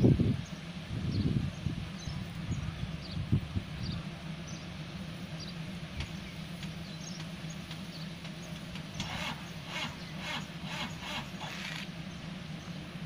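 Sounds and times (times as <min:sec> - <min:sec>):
distant diesel engine hum: 0:00.0 - 0:13.0.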